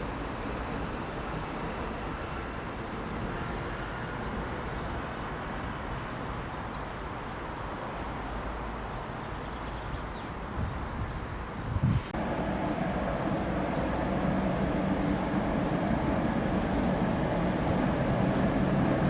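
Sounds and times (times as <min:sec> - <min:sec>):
outdoor rumble and hiss: 0:00.0 - 0:19.0.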